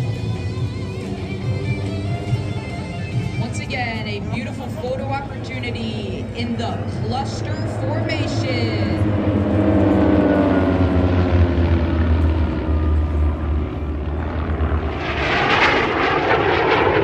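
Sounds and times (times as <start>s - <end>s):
propeller airplanes flying past: 0.0s - 17.0s
rushing engine noise: 0.0s - 17.0s.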